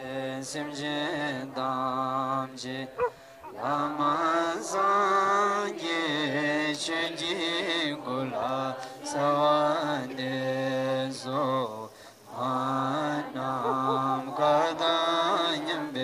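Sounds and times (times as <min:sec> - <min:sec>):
voices chanting a mantra: 0:00.0 - 0:16.0.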